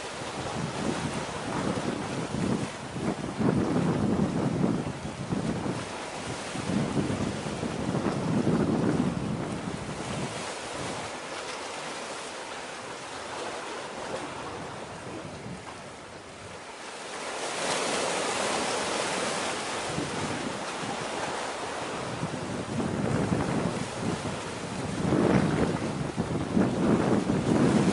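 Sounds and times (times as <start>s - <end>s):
wind buffeting microphone: 0.0s - 11.2s, 14.0s - 16.7s, 17.6s - 27.9s
sea noise: 0.0s - 27.9s.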